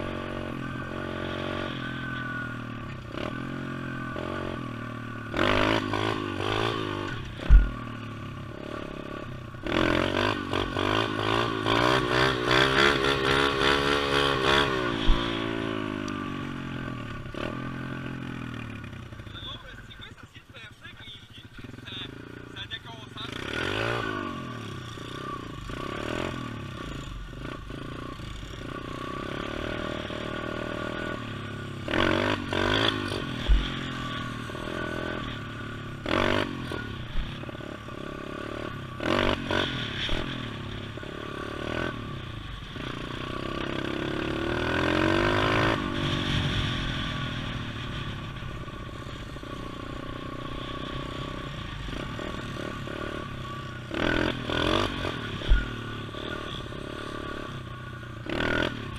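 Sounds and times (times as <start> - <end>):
pit bike engine revving: 0.0 - 58.9.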